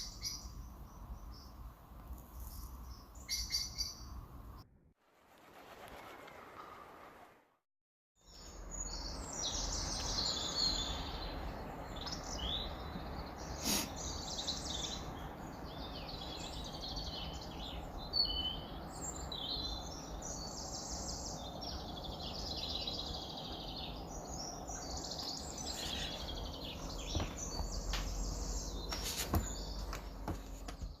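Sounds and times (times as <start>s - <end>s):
small birds chirping and singing: 0.0s - 4.6s, 8.2s - 31.0s.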